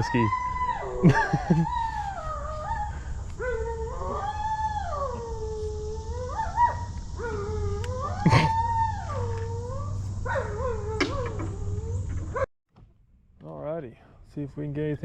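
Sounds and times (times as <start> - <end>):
husky howling: 0.0 - 12.5.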